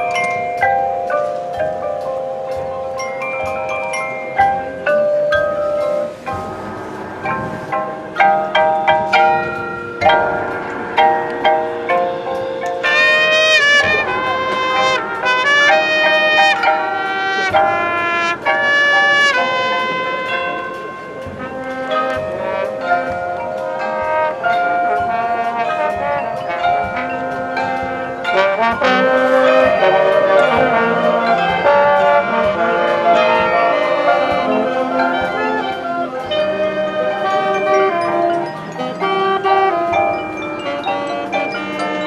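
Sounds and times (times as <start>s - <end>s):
brass chords: 0.0s - 42.0s
drums striking: 0.0s - 42.0s
mallet percussion: 0.0s - 42.0s
marching band playing: 0.0s - 42.0s.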